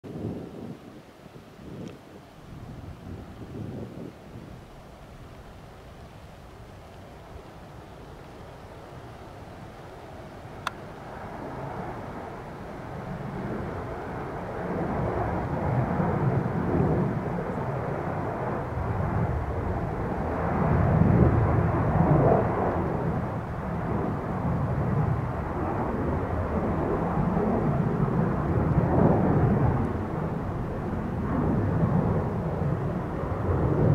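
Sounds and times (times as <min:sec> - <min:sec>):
jet engines rumbling: 0:00.1 - 0:33.9.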